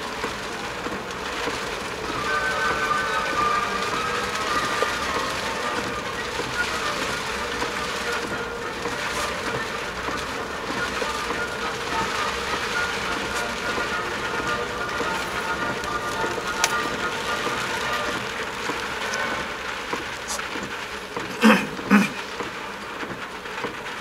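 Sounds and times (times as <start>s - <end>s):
rain and tyre spray hiss: 0.0s - 24.0s.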